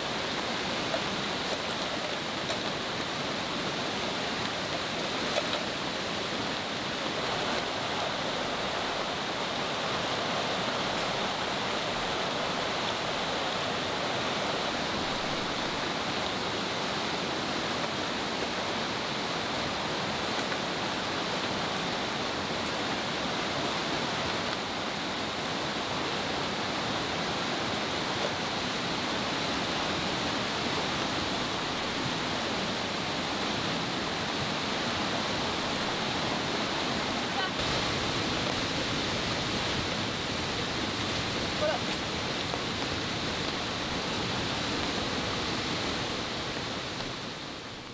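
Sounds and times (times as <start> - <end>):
river rushing: 0.0 - 47.9.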